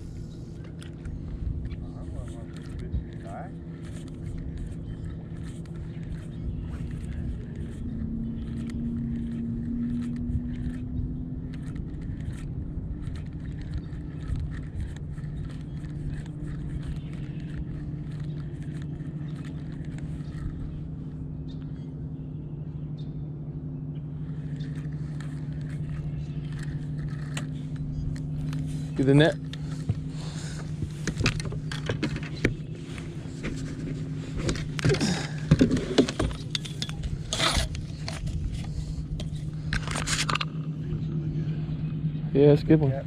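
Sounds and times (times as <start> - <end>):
electric boat motor humming: 0.0 - 43.0.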